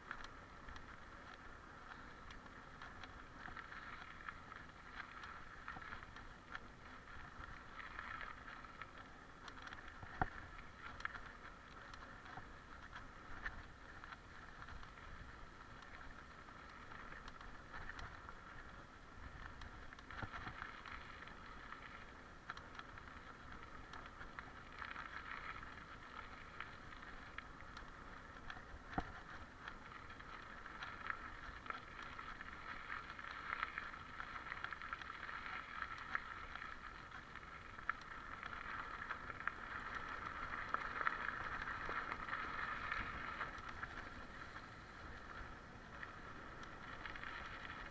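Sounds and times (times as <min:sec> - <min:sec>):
bike tyres on dirt trail: 0:00.0 - 0:47.9.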